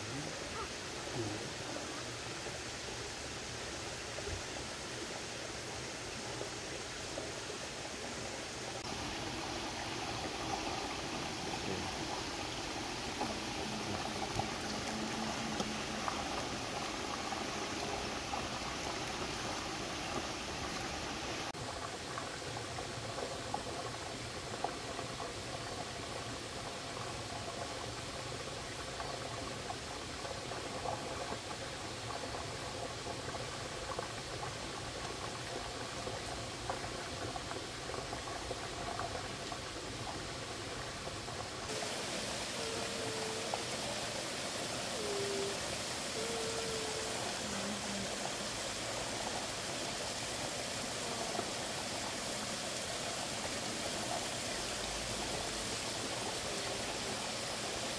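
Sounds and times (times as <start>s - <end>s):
stream trickling over stones: 0.0s - 57.9s.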